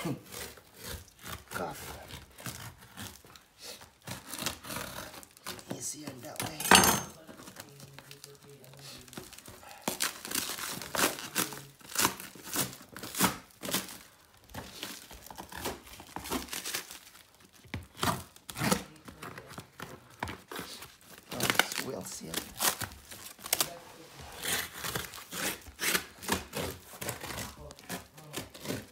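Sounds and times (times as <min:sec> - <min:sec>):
packaging crinkling and tearing: 0:00.0 - 0:28.9.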